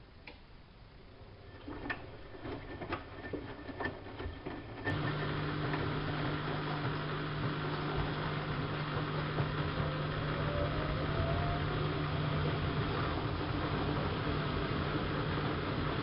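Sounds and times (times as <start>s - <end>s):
washing machine motor humming: 1.1s - 16.0s.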